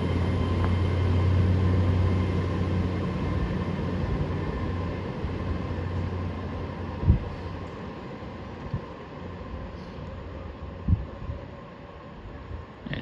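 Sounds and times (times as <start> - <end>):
diesel train engine humming: 0.0 - 12.8.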